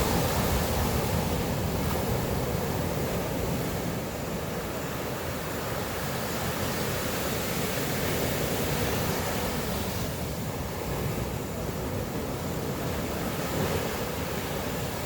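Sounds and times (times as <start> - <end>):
sea surf on sandy beach: 0.0 - 15.0.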